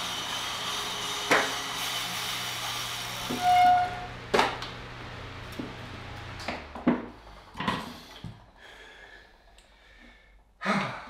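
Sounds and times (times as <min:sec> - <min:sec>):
fan and bike trainer humming: 0:00.0 - 0:10.9.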